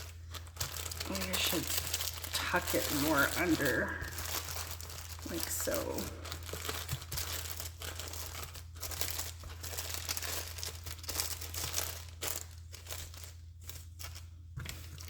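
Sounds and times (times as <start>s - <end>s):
low electrical hum: 0.0s - 15.0s
paper rustling and crinkling: 0.0s - 15.0s.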